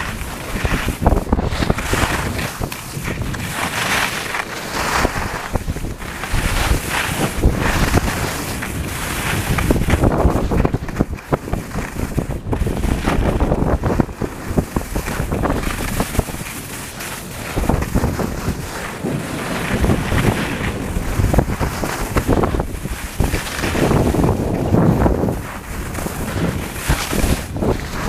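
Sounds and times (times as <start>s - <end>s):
skis scraping on hard snow: 0.0s - 28.0s
wind buffeting microphone: 0.0s - 28.0s.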